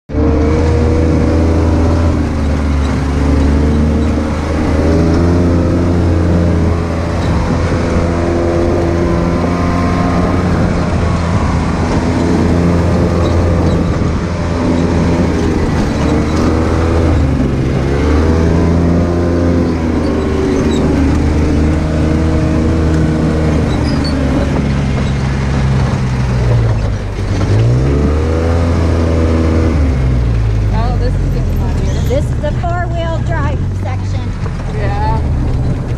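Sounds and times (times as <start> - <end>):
utility vehicle engine revving: 0.0 - 35.9.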